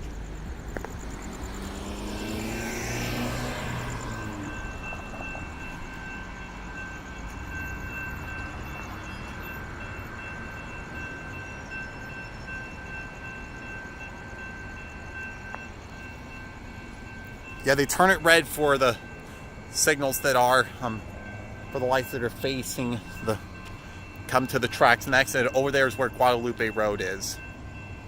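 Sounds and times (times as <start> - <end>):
crossing warning bell: 0.0 - 28.0
road traffic rumble: 0.0 - 28.0.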